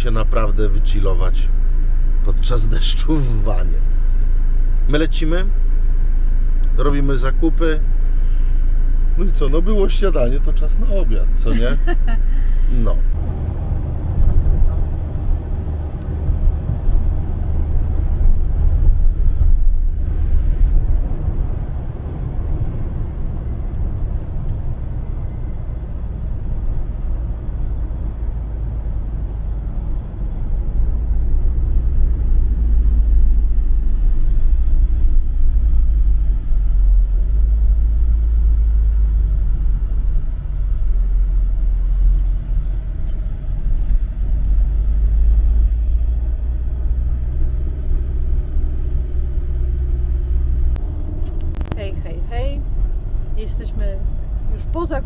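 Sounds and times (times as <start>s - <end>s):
van driving on road: 0.0s - 55.0s.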